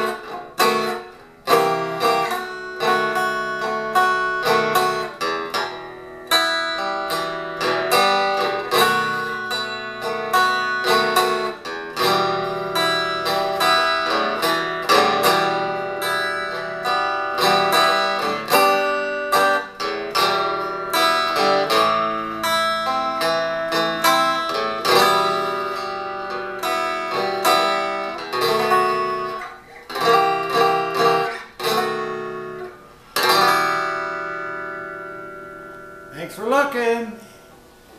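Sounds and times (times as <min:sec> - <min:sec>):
fingerpicked resonator guitar: 0:00.0 - 0:37.9.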